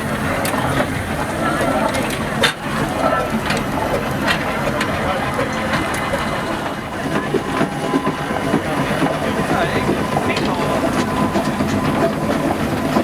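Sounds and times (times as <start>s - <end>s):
steam traction engine running: 0.0s - 13.0s.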